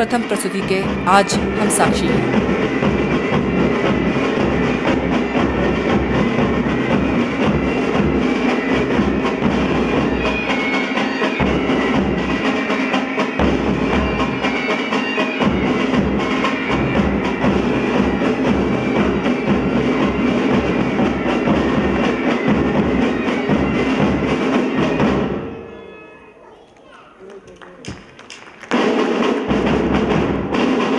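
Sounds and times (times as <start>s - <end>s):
drums beating: 0.0s - 25.4s, 26.8s - 30.9s.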